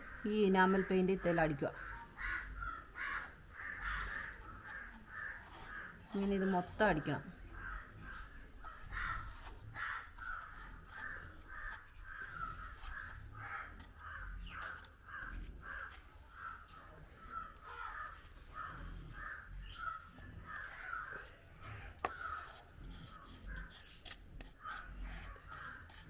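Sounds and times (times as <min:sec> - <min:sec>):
crows cawing: 0:00.0 - 0:22.5.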